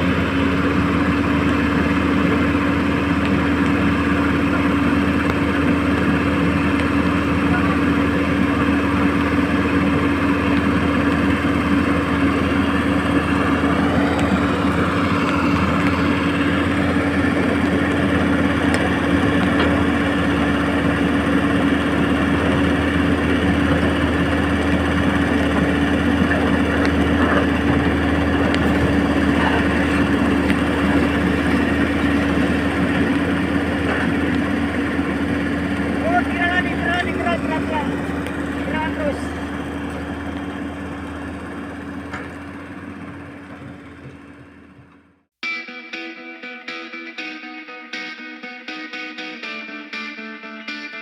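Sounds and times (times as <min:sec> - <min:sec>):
model excavator motors humming: 0:00.0 - 0:45.2.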